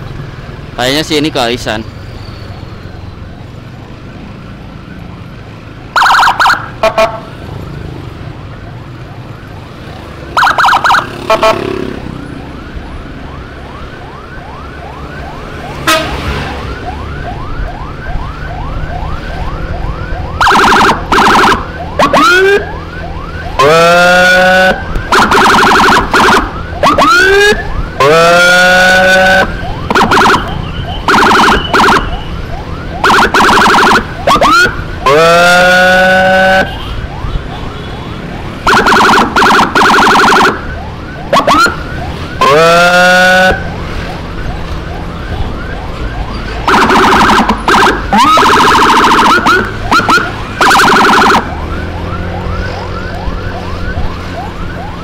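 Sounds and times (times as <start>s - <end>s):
engine and road noise: 0.0s - 55.0s
fast-cycling siren: 4.6s - 55.0s
motorcycle siren blasts and whoops: 5.0s - 7.4s, 8.7s - 55.0s.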